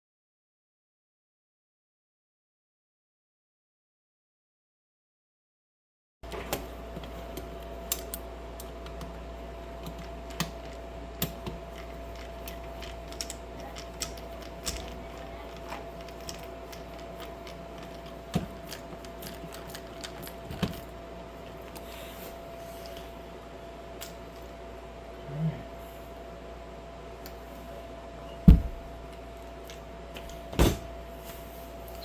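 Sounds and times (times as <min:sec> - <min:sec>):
faint steady hum: 0:06.2 - 0:32.0.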